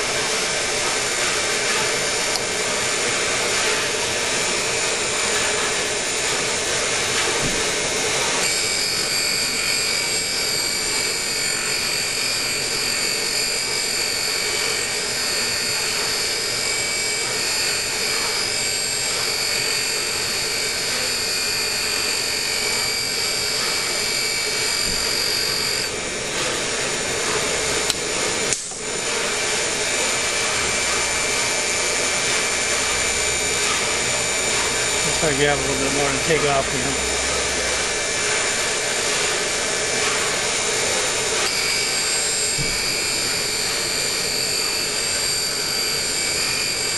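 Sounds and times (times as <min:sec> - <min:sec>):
grinding wheel grinding valve: 0:00.0 - 0:46.9
steady high whine: 0:00.0 - 0:46.9.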